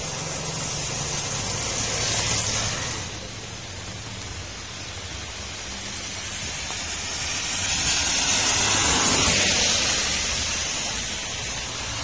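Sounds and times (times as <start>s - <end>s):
car tyres spraying through water: 0.0s - 12.0s
steady rain: 0.0s - 12.0s.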